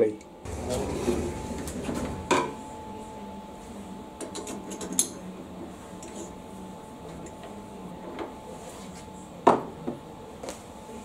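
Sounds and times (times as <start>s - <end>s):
low steady hum: 0.1s - 11.0s.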